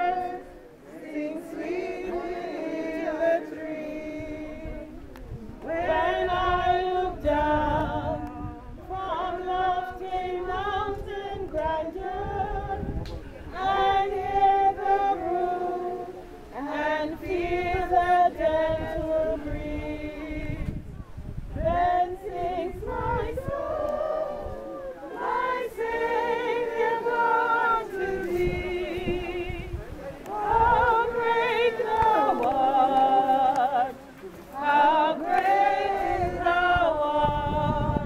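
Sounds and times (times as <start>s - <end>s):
choir singing unaccompanied: 0.0s - 38.0s.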